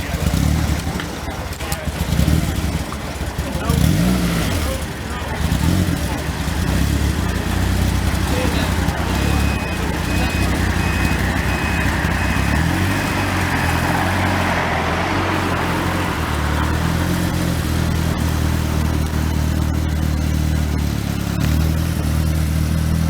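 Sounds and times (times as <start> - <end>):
car engine running at low revs: 0.0 - 23.0
traffic noise: 0.0 - 23.0.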